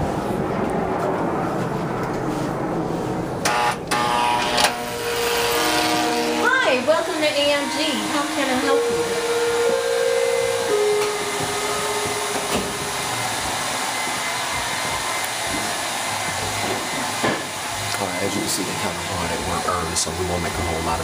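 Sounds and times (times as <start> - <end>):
hair dryer blowing: 3.4 - 21.0.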